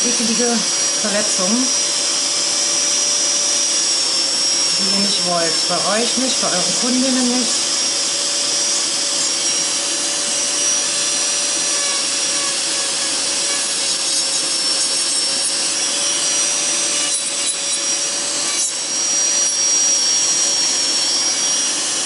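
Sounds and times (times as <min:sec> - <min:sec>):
nail drill grinding: 0:00.0 - 0:22.0
nail dust extractor humming: 0:00.0 - 0:22.0.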